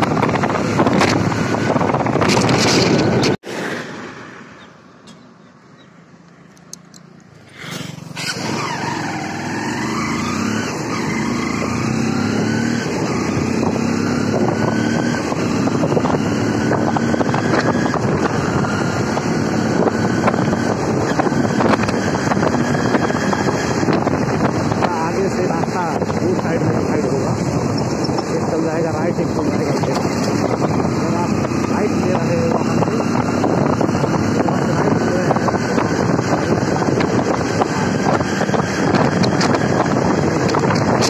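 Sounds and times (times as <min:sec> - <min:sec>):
wind rush on microphone: 0:00.0 - 0:03.8, 0:08.2 - 0:41.0
motorcycle engine accelerating: 0:00.0 - 0:04.7, 0:06.6 - 0:41.0.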